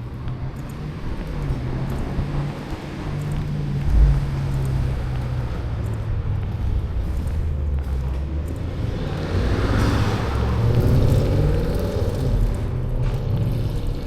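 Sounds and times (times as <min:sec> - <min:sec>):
car tyre noise passing: 0:00.0 - 0:14.0
vehicle engine rumble: 0:00.0 - 0:14.0.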